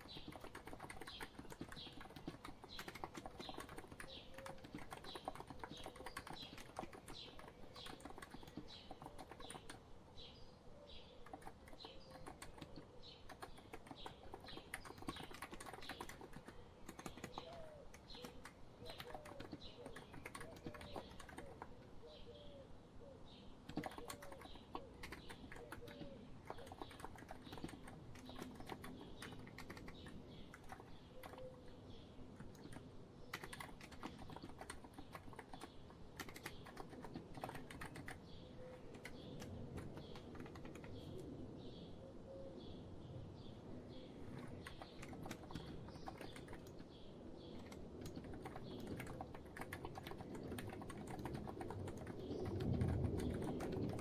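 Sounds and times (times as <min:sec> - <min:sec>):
fast keyboard typing: 0:00.0 - 0:09.9, 0:11.2 - 0:21.9, 0:23.6 - 0:41.3, 0:44.2 - 0:54.0
birds chirping: 0:00.0 - 0:22.6, 0:23.4 - 0:54.0.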